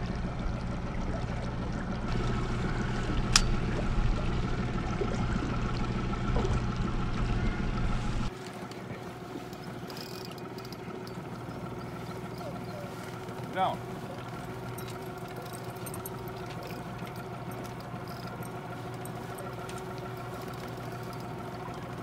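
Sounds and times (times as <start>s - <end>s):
boat engine humming: 0.0s - 22.0s
water lapping: 0.0s - 22.0s
water moving against hull: 0.0s - 22.0s.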